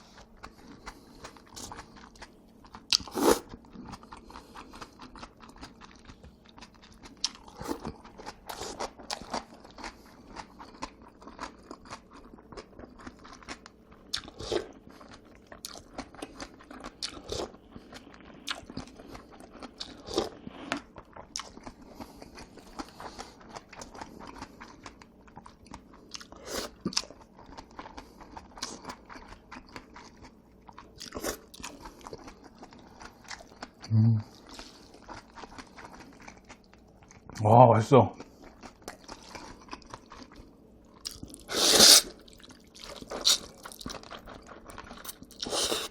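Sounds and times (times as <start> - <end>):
wet chewing and mouth smacks: 0.0 - 37.4, 38.2 - 45.9.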